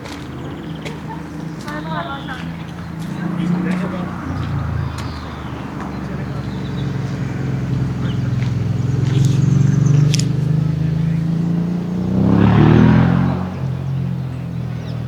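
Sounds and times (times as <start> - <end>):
vehicle engine humming and revving: 0.0 - 15.0.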